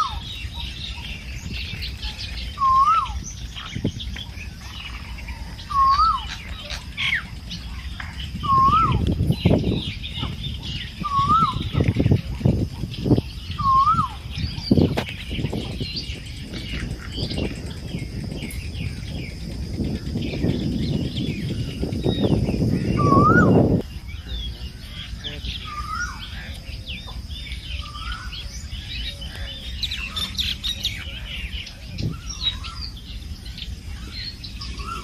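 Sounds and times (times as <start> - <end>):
small birds chirping: 0.0 - 35.0
whistled bird call: 0.0 - 35.0.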